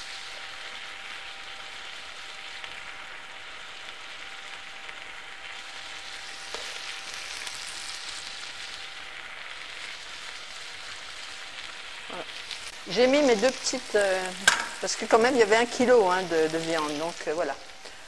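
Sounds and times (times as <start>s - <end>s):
meat and onions frying: 0.0s - 18.0s.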